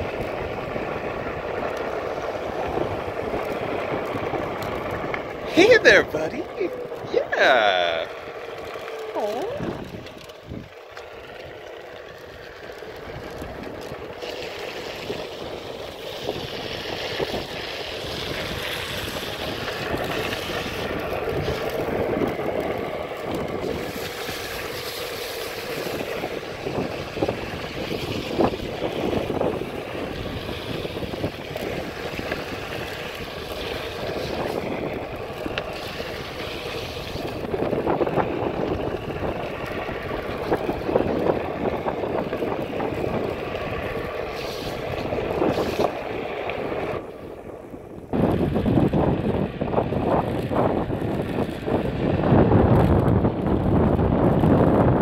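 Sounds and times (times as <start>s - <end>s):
wind on microphone: 0.0s - 8.1s, 8.8s - 10.8s, 13.0s - 55.0s
tyre noise on wet pavement: 0.0s - 55.0s.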